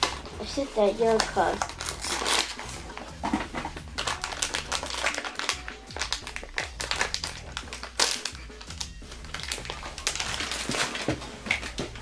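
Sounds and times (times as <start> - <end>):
foil bag crinkling: 0.0 - 11.8.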